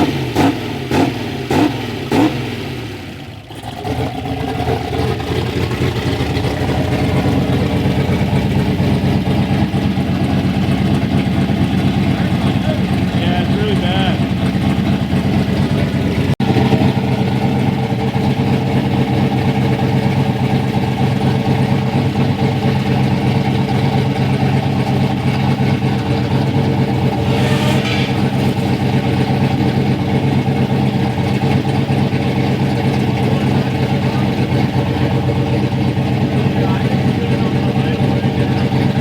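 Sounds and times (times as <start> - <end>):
turbocharged engine running: 0.0 - 39.0.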